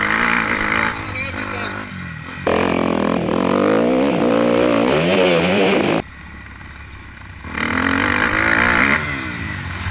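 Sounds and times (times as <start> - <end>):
motorbike engine revving: 0.0 - 6.2, 7.4 - 9.9.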